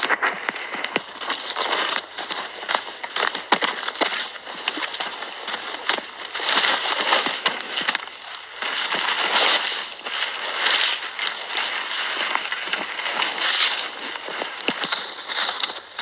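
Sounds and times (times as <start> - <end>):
twigs cracking: 0.0 - 16.0.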